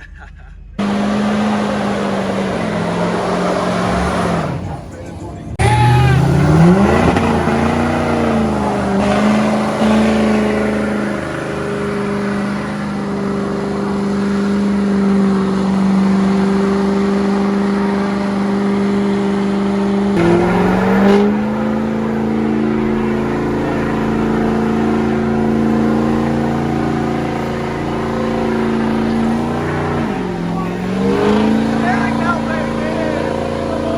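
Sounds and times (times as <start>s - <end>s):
diesel truck engine revving: 0.8s - 33.9s.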